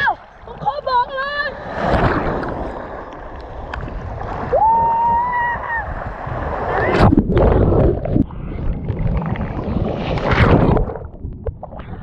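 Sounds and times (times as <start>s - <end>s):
sea surf churning and splashing: 0.0s - 12.0s.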